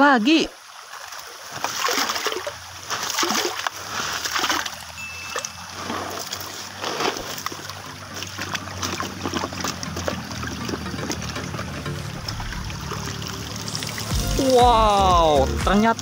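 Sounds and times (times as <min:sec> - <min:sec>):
water splashing and sloshing: 0:00.0 - 0:16.0
wet sand and gravel crunching: 0:01.0 - 0:16.0.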